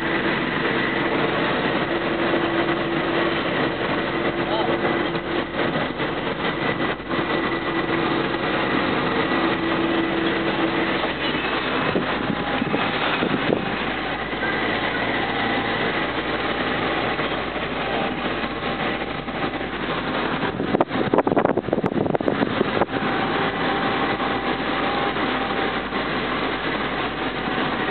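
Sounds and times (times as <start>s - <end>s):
car engine running: 0.0s - 27.9s
road noise: 0.0s - 27.9s.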